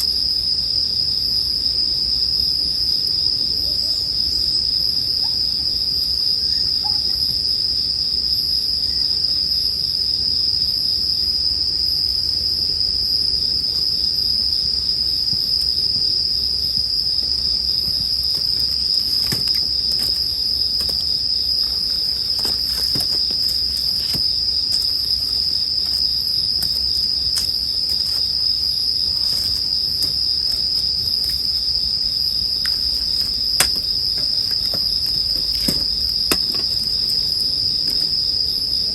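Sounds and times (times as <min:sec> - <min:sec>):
bell crickets chirping: 0:00.0 - 0:38.9.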